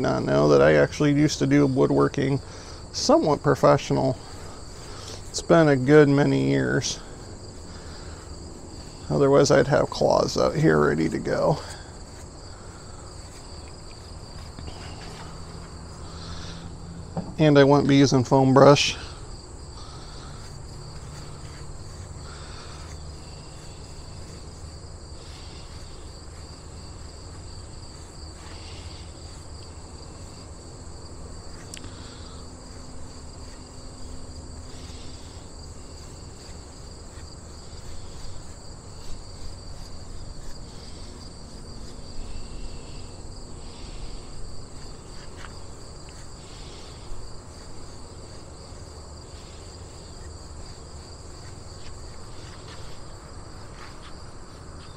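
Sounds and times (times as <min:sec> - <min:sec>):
high-pitched insect trilling: 0:02.6 - 0:17.1, 0:17.9 - 0:54.9
faint soft rustles: 0:04.0 - 0:16.7, 0:19.8 - 0:54.9.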